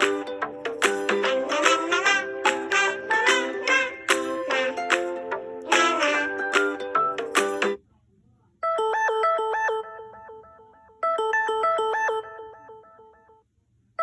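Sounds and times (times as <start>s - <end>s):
phone ringtone melody: 0.0s - 7.8s, 8.6s - 13.5s.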